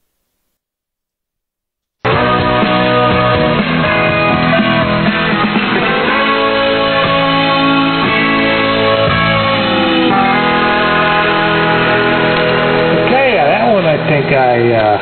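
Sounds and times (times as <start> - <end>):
guitar-led music over radio: 2.0 - 15.0.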